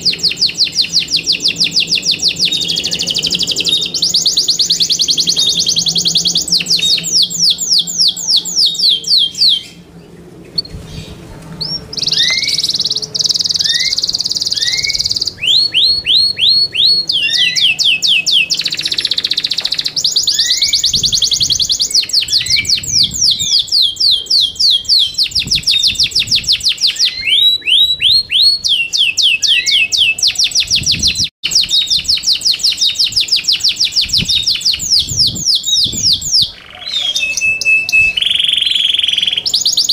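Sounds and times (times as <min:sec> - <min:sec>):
canary trilling: 0:00.0 - 0:09.9, 0:10.5 - 0:39.9.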